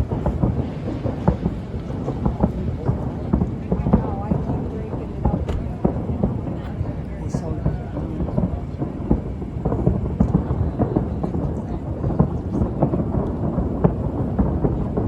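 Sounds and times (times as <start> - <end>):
firework cracks and pops: 0.0 - 15.0
rumble of firework booms: 0.0 - 15.0.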